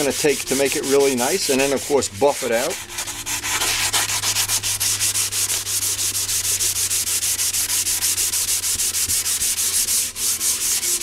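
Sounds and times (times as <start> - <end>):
hand sanding strokes: 0.0 - 11.0.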